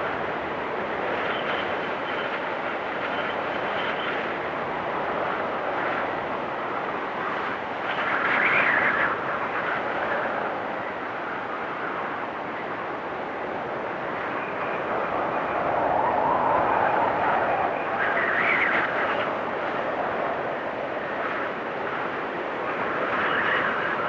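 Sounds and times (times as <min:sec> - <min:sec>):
wind blowing through trees: 0:00.0 - 0:24.0.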